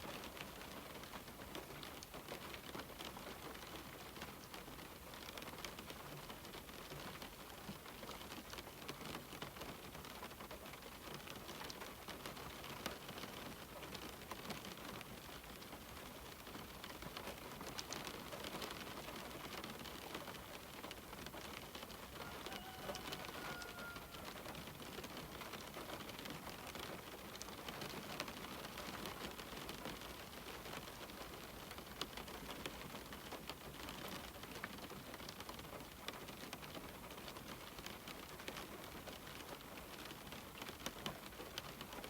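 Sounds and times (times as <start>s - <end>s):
rain on a window: 0.0s - 42.0s.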